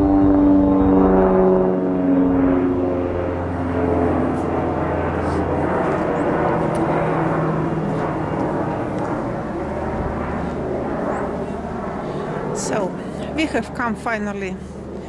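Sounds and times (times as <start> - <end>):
propeller airplane droning overhead: 0.0 - 15.0.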